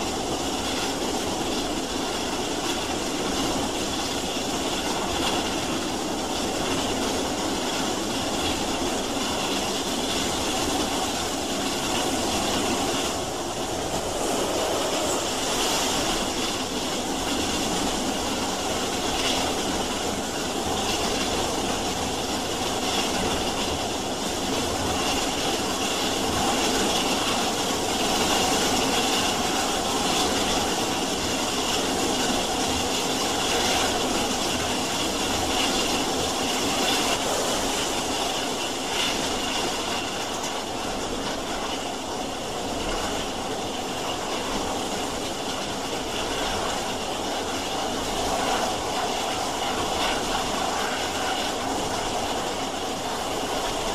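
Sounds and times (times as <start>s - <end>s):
steam train rumble and hiss: 0.0s - 53.9s.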